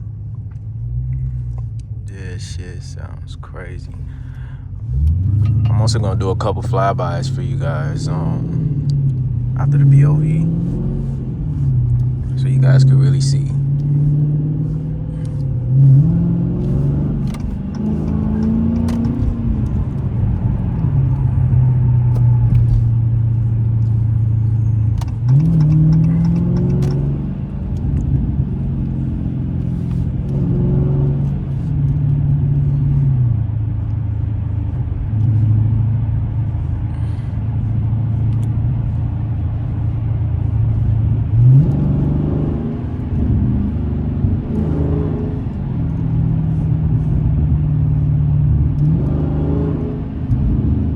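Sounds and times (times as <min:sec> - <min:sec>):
car engine exhaust drone revving: 0:00.0 - 0:50.9.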